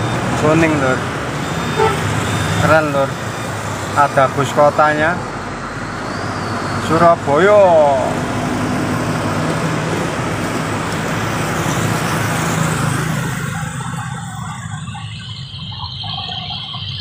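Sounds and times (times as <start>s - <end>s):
motorcycles and cars passing: 0.0s - 17.0s.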